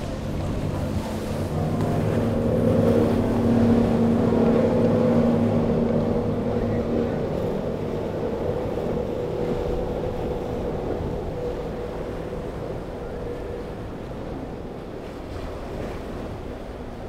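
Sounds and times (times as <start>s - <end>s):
outboard motors droning: 0.0s - 17.0s
rushing water and spray: 0.0s - 17.0s.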